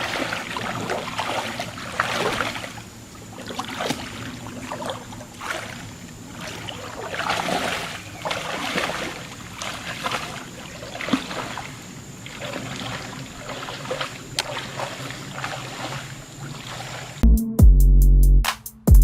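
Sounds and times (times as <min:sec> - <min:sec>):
water splashing and sloshing: 0:00.0 - 0:17.2.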